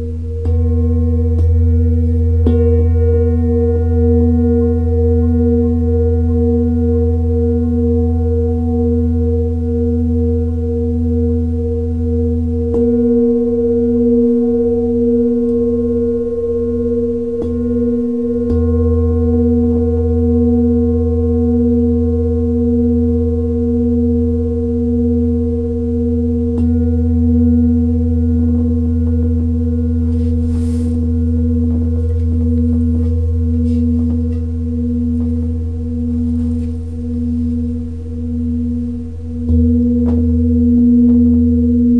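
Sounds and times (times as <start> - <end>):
metal singing bowl ringing: 0.0 - 41.9.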